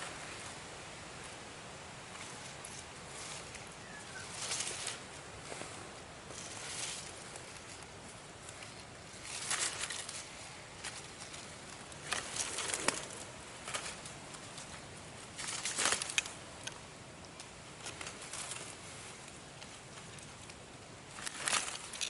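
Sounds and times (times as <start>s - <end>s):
dry leaves rustling: 0.0s - 22.0s.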